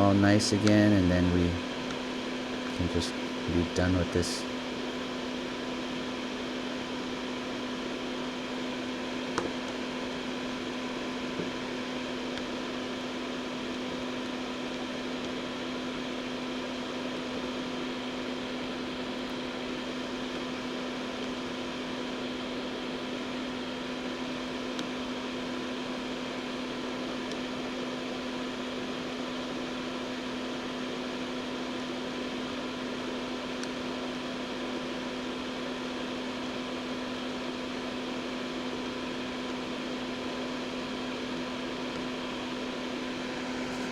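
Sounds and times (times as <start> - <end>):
electric fan humming: 0.0 - 43.9.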